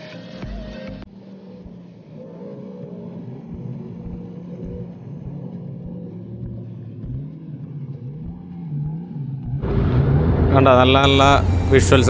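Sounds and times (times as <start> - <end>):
jet ski engine revving: 1.2 - 12.0.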